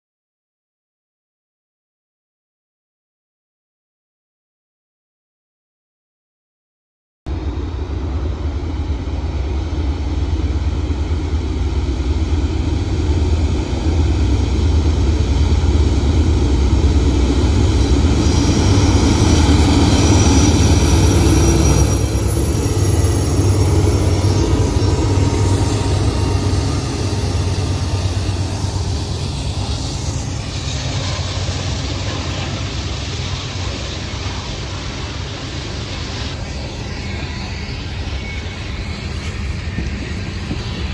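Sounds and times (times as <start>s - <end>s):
diesel locomotive engine rumble: 7.3s - 40.9s
locomotive high whine: 7.3s - 40.9s.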